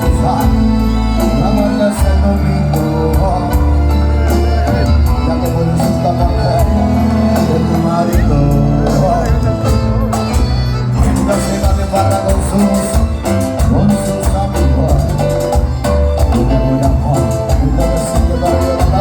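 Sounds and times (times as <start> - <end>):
live band music: 0.0 - 19.0
person singing: 0.0 - 19.0.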